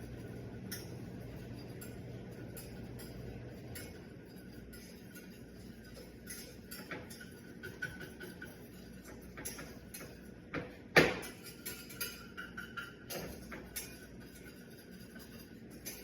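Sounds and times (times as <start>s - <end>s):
utensil scraping against a pan: 0.0s - 16.0s.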